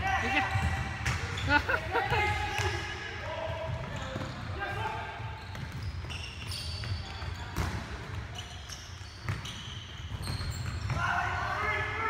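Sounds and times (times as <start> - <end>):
shoes squeaking on floorboards: 0.4 - 2.9, 3.6 - 11.0.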